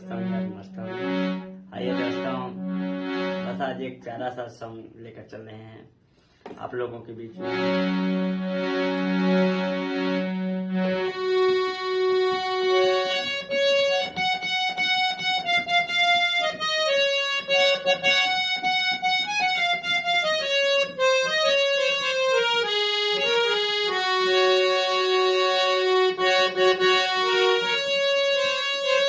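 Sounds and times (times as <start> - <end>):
reedy keyboard melody: 0.0 - 4.5, 7.3 - 29.0.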